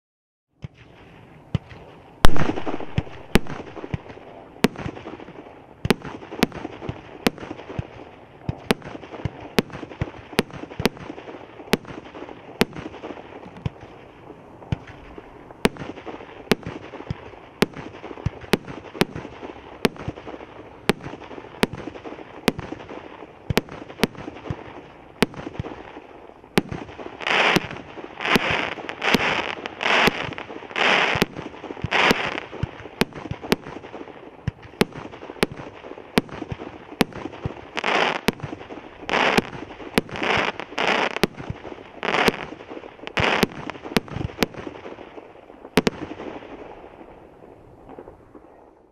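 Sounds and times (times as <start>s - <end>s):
fireworks bangs: 0.6s - 48.9s
fireworks crackling: 0.6s - 48.9s
fireworks rushing bursts: 0.6s - 48.9s.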